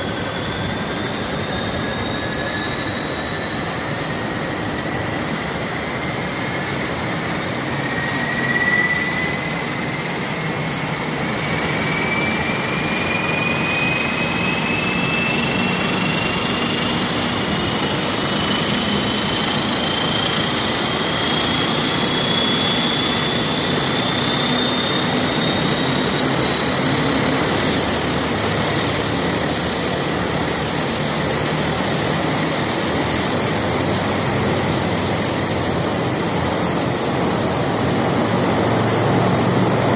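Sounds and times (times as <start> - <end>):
aircraft engines running: 0.0 - 39.9
high whine rising in pitch: 0.0 - 39.9.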